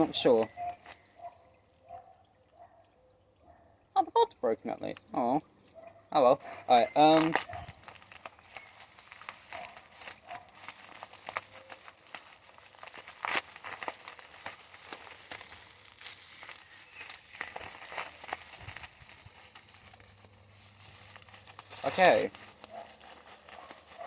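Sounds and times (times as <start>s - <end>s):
packaging crinkling: 0.0s - 1.8s, 6.4s - 24.0s.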